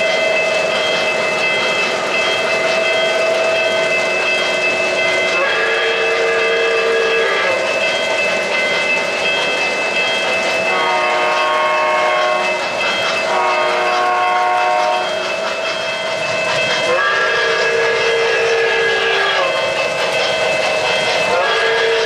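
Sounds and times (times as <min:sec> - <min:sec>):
model train chime signals: 0:00.0 - 0:22.0
model trains whirring and clattering: 0:00.0 - 0:22.0.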